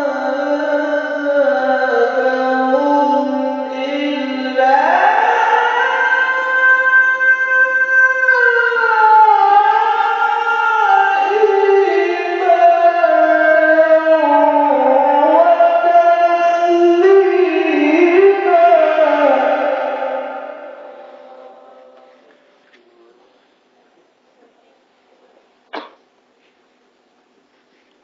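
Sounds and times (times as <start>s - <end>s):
man reciting melodically over pa: 0.0s - 23.3s.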